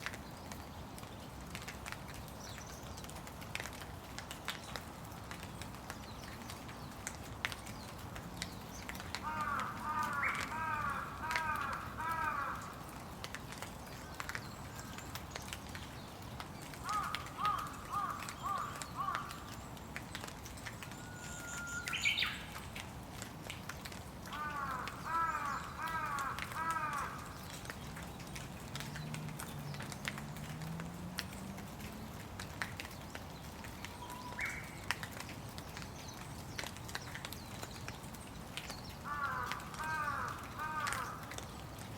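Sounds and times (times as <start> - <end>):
drips and taps: 0.0 - 41.9
steady rain: 0.0 - 41.9.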